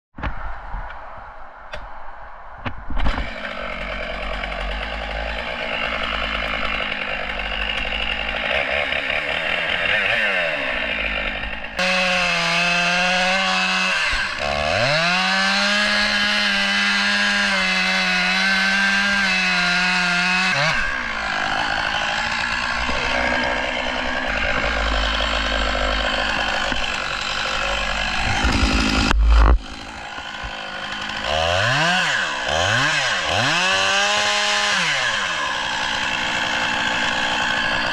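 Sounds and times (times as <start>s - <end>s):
chainsaw cutting wood: 3.0s - 37.9s.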